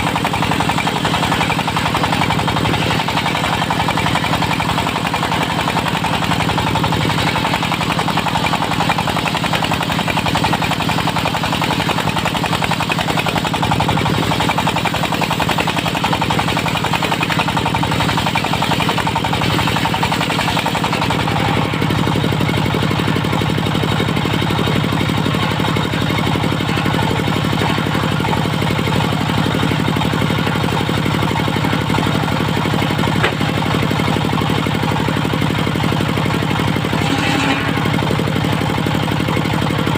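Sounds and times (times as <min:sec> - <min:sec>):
circular sawmill running: 0:00.0 - 0:39.9
knocking diesel engine: 0:00.0 - 0:39.9.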